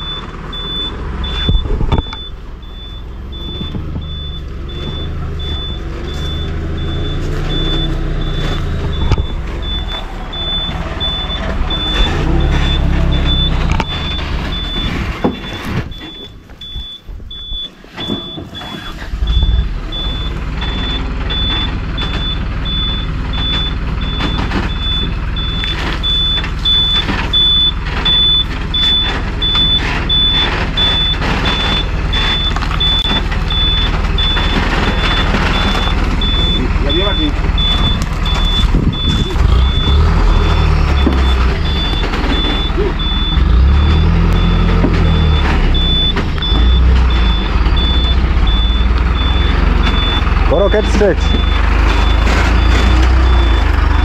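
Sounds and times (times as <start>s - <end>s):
reversing alarm beeping: 0.0s - 54.0s
truck engine running: 0.0s - 54.0s.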